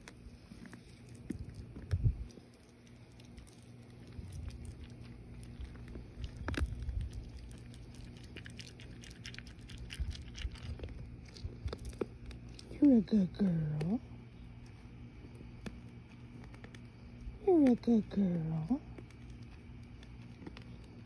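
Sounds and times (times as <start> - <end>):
deer crunching corn kernels: 0.0 - 21.0.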